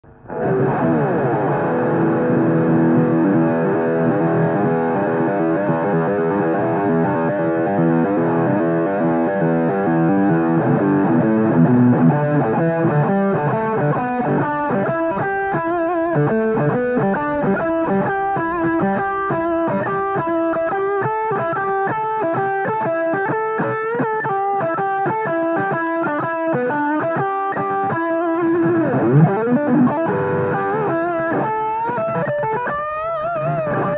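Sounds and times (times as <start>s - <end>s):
electric guitar chords and picking: 0.0s - 33.9s.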